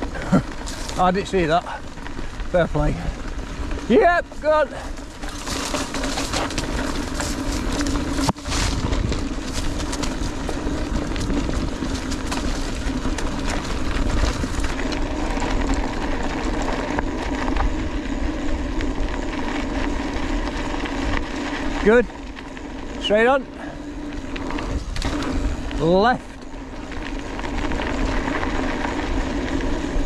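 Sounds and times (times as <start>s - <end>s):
bike rattling over bumps: 0.0s - 30.0s
bike tyres humming on dirt: 0.0s - 30.0s.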